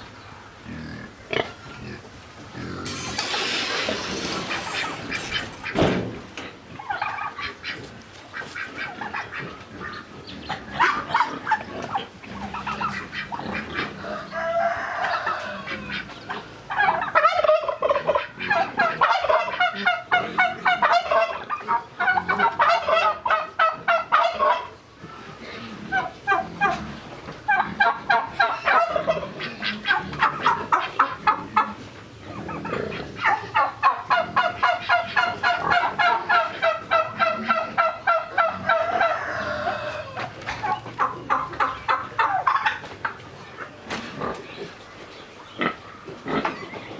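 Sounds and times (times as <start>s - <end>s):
chickens calling in rapid pulses: 0.0s - 46.9s.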